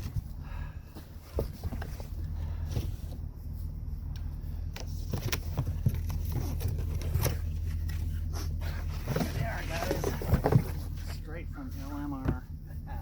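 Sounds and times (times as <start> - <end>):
boxed wheel knocks and scrapes: 0.0 - 3.4, 4.7 - 12.5
steady low hum: 0.0 - 13.0.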